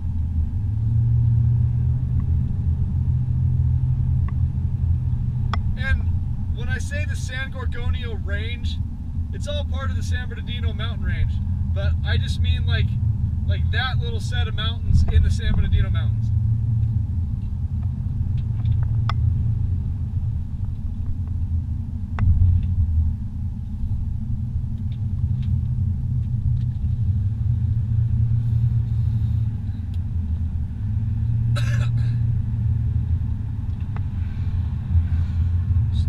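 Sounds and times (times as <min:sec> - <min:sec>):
car cabin road rumble: 0:00.0 - 0:36.0.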